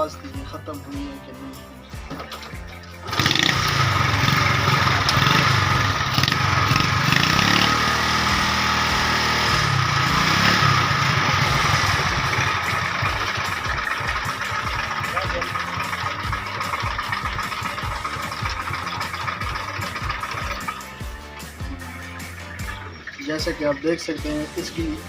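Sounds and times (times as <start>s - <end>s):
motorcycle engine starting and revving: 1.9s - 25.0s.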